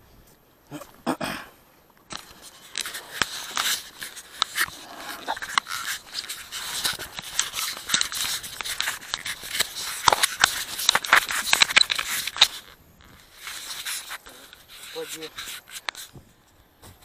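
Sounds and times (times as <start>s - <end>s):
rustling and crackling: 0.0s - 17.0s
clothing brushing: 2.3s - 16.2s.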